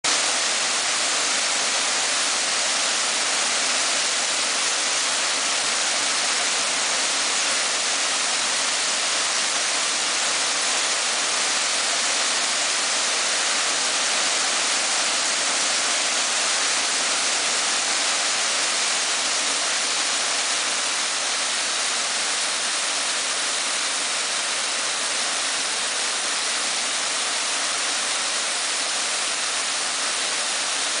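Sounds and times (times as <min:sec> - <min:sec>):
water rushing through lock gates: 0:00.1 - 0:31.0.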